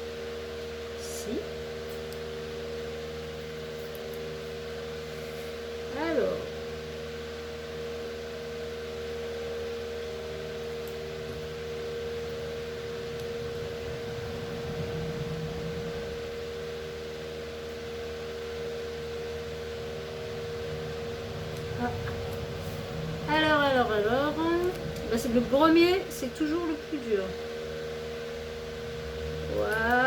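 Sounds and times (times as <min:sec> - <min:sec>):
electric fan whirring: 0:00.0 - 0:30.0.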